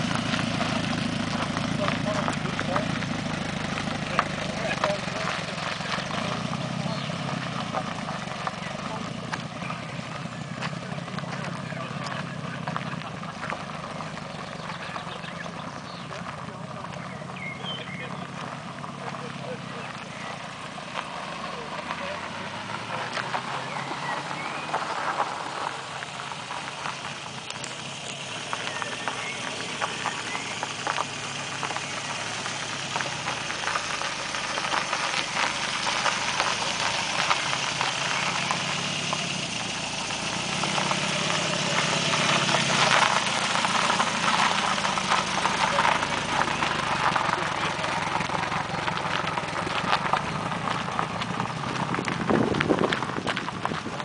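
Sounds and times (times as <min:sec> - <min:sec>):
car engine running slowly: 0:00.0 - 0:54.0
tyres crunching on gravel: 0:00.0 - 0:54.0.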